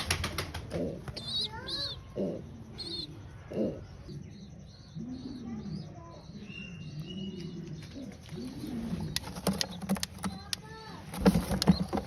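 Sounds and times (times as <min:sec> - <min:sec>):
pigeons cooing: 0:00.0 - 0:10.5
faint bird chirps: 0:01.1 - 0:11.0.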